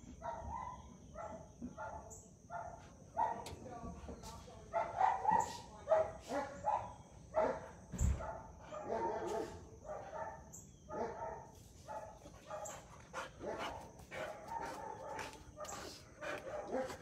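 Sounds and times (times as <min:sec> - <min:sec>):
dog barking: 0:00.1 - 0:03.6, 0:04.7 - 0:17.0.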